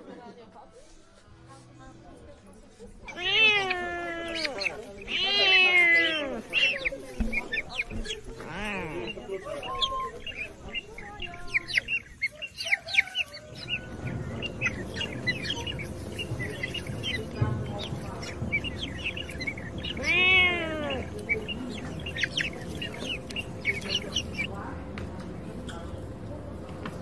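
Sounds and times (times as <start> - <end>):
birds chirping: 3.0 - 27.0.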